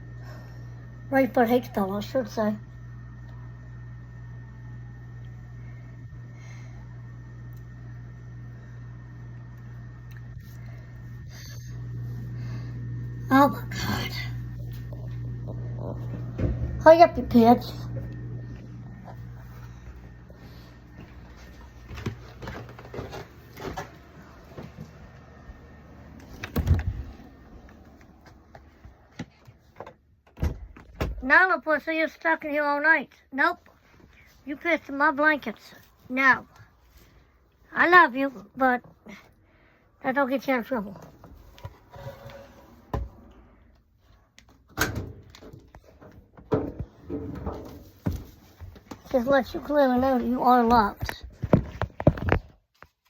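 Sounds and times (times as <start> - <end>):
faint low hum: 0.0 - 51.6.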